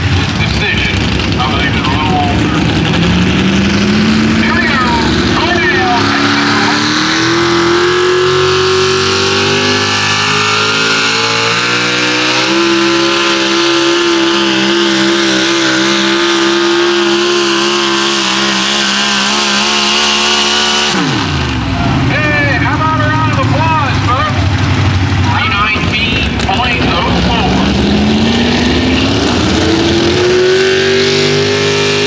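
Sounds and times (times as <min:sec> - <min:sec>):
truck engine at full throttle: 0:00.0 - 0:32.0.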